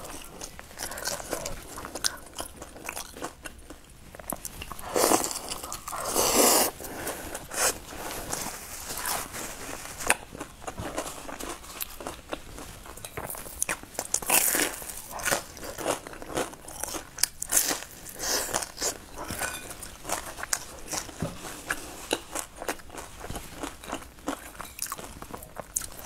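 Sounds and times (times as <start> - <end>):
person chewing crispy pastry: 0.0 - 26.0.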